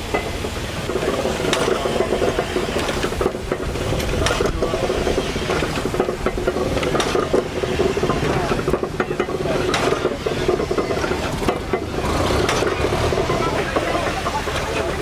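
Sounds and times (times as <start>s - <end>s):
steam hiss and hum: 0.0s - 15.0s
steam traction engine clatter: 0.0s - 15.0s.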